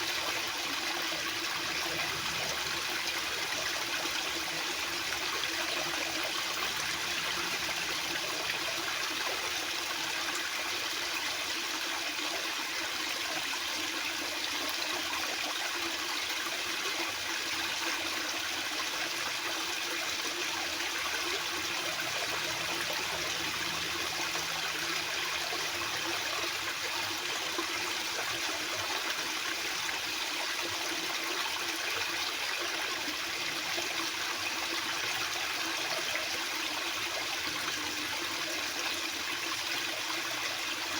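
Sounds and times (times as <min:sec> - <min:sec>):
fast-flowing water rushing: 0:00.0 - 0:40.9.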